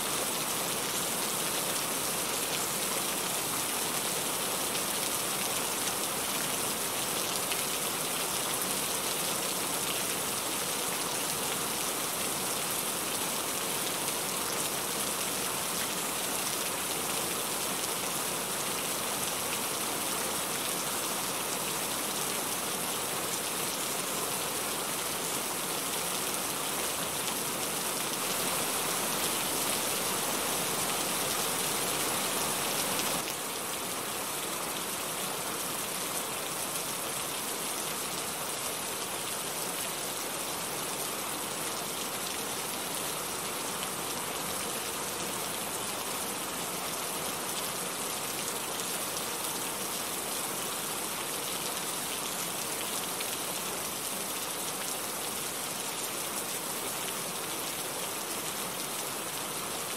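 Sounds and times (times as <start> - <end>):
heavy rain falling: 0.0 - 48.0.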